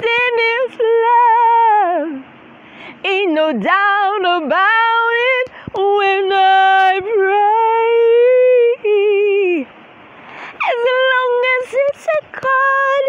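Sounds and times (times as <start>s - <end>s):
woman singing unaccompanied: 0.0s - 2.3s, 2.9s - 9.8s, 10.4s - 13.0s.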